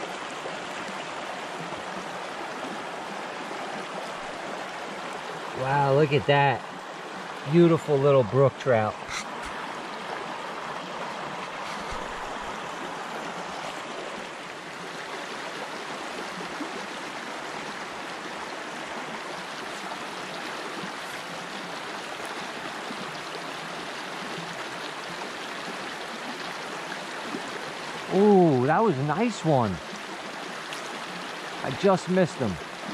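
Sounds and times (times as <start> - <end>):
brook flowing over rocks: 0.0 - 32.9.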